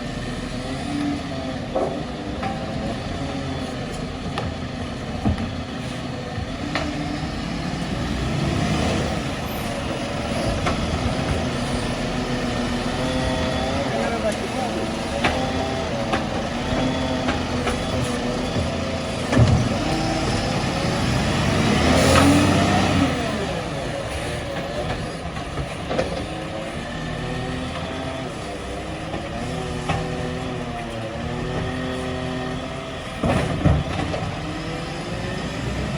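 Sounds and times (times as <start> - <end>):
garbage truck engine running: 0.0 - 35.9.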